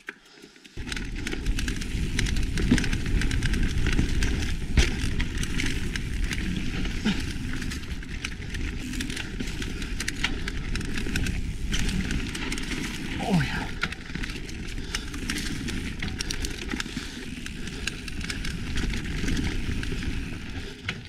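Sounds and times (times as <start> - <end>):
bike rattles and clicks: 0.0 - 21.0
tyres rumbling on dirt trail: 0.8 - 21.0.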